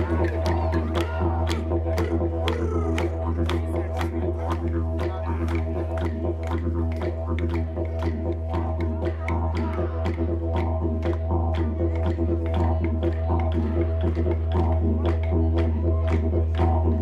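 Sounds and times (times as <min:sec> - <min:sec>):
didgeridoo drone: 0:00.0 - 0:17.0.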